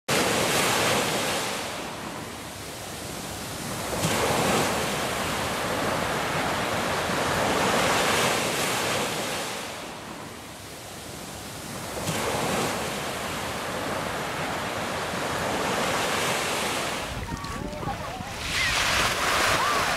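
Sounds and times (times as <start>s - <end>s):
waves breaking on sandy beach: 0.1s - 19.9s.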